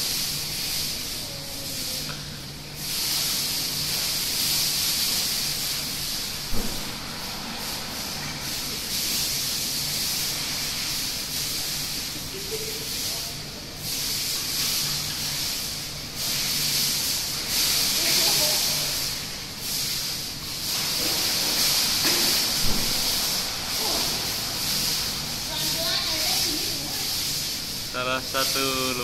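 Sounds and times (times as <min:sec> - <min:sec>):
pool water splashing: 0:00.0 - 0:29.0.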